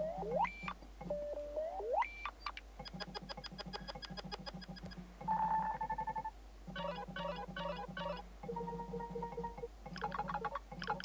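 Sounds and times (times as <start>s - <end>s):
electronic chirping pattern: 0.0s - 11.0s.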